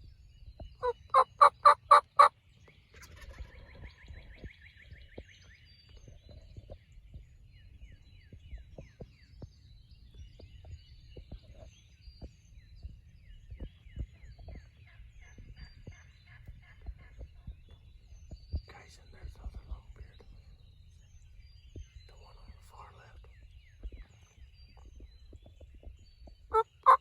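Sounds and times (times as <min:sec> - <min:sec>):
birds chirping: 0:00.0 - 0:27.0
low wind rumble: 0:03.3 - 0:27.0.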